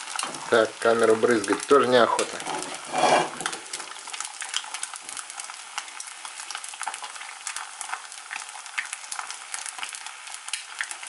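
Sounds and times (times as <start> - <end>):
egg sizzling in oil: 0.0 - 11.0.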